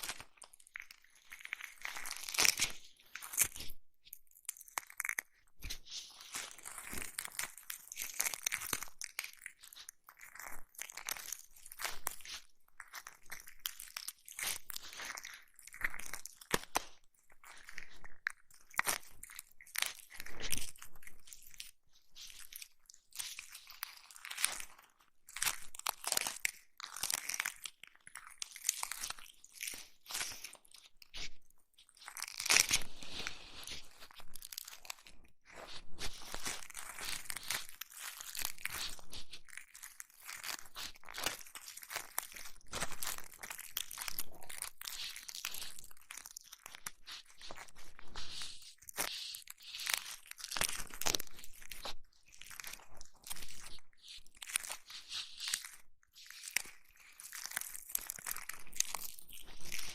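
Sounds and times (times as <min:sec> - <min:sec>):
crunchy rubbing and scratching: 0:04.6 - 0:59.9.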